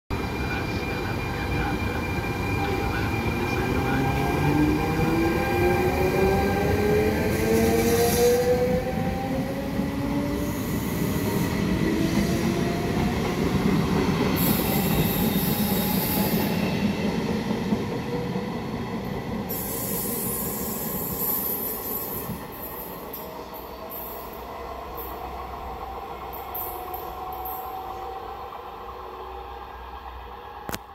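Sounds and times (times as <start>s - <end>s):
electric locomotive traction whine: 0.2s - 30.9s.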